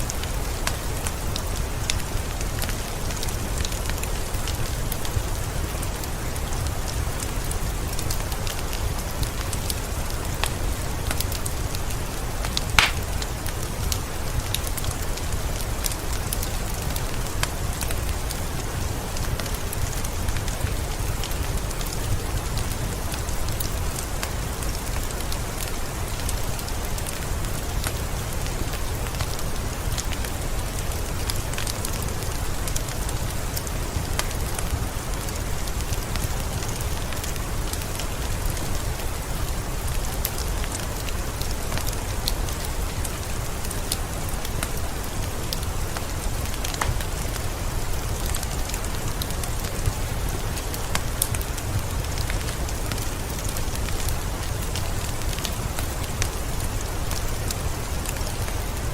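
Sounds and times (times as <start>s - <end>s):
steady rain falling: 0.0s - 58.9s
wood fire crackling: 0.1s - 58.9s.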